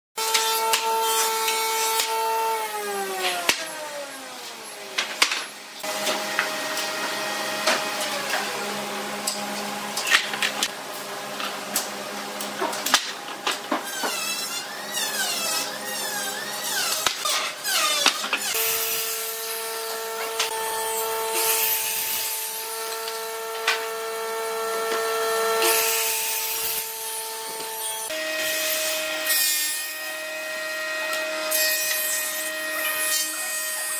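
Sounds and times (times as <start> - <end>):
woodworking machinery whining: 0.2 - 33.9.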